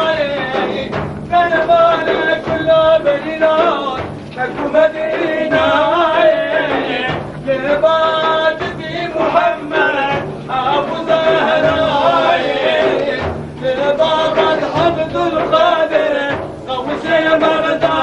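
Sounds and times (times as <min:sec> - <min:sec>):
man singing religious chant: 0:00.0 - 0:18.0.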